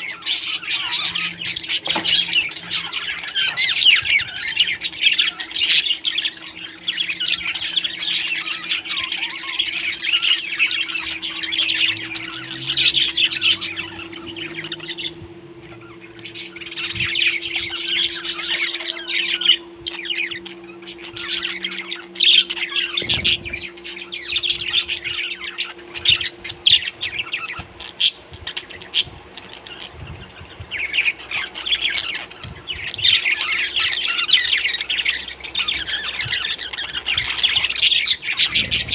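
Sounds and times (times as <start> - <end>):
parrots chirping and squawking: 0.0 - 38.9
steady low hum: 0.0 - 38.9.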